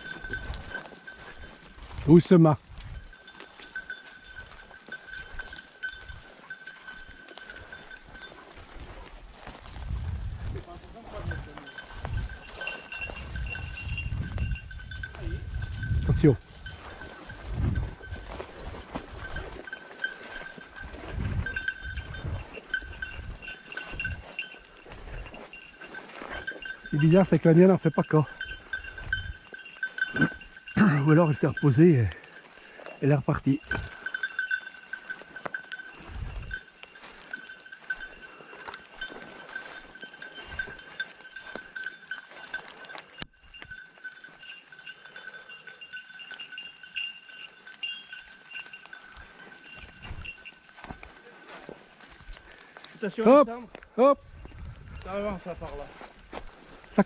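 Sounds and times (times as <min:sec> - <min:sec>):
footsteps in dry leaves: 0:00.0 - 0:27.3, 0:31.4 - 0:44.8, 0:46.4 - 0:57.0
dog collar bell jingling: 0:00.0 - 0:57.0
rustling and thumps of movement: 0:00.0 - 0:57.0.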